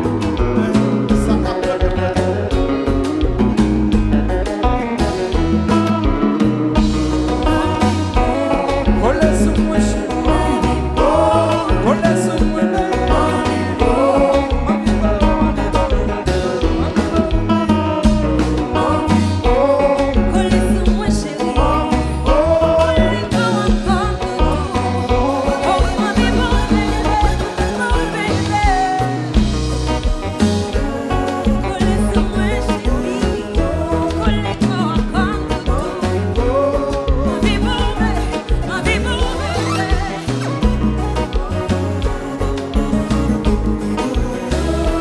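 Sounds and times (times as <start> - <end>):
live band dance music: 0.0 - 45.0
person singing: 6.9 - 45.0.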